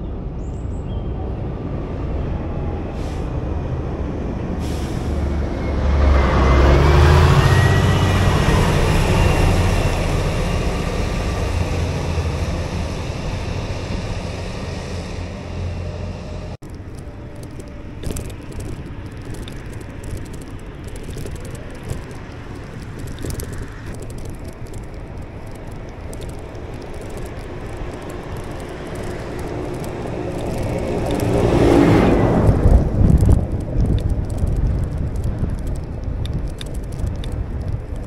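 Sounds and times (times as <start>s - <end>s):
tractor engine rumbling: 2.7s - 38.0s.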